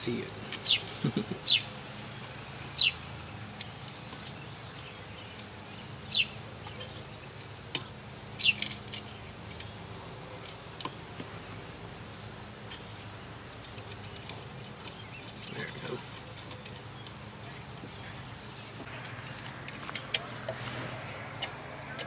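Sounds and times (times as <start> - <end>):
bird chirping: 0.0 - 11.2, 12.5 - 22.0.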